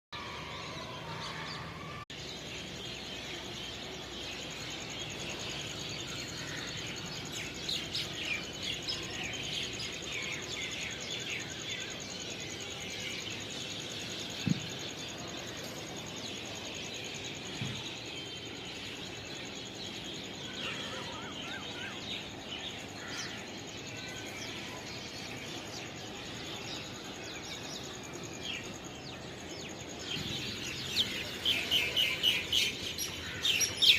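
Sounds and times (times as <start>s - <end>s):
small birds chirping: 0.2s - 33.9s
steady outdoor hiss: 0.2s - 33.9s.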